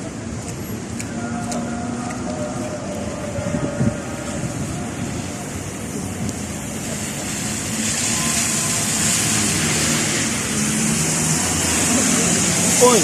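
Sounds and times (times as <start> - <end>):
rain and tyres on wet road: 0.0 - 13.0.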